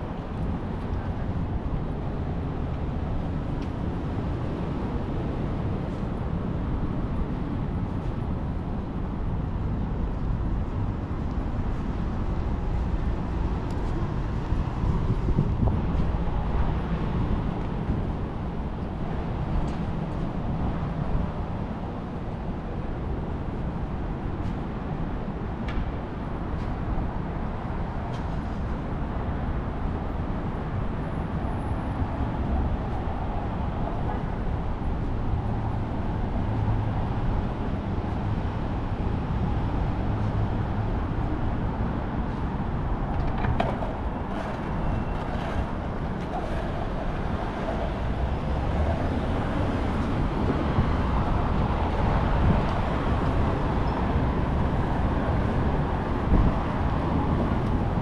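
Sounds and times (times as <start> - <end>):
rumble of passing traffic: 0.0 - 58.0.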